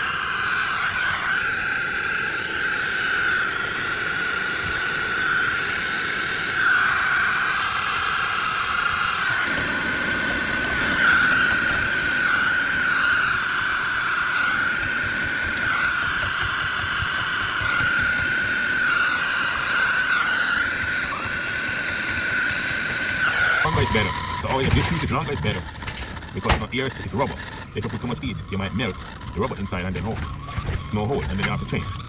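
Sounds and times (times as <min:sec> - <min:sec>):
gas torch flame roaring: 0:00.0 - 0:32.0.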